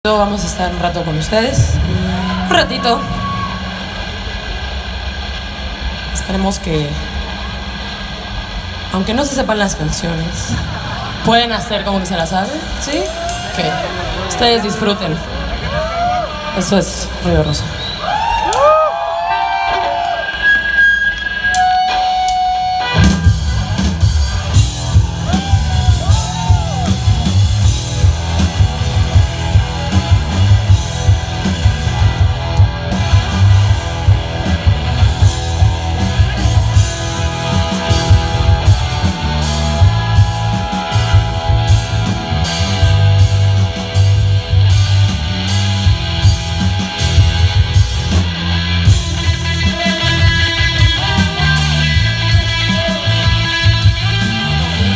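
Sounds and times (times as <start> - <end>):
indie rock band playing: 0.0 - 54.9.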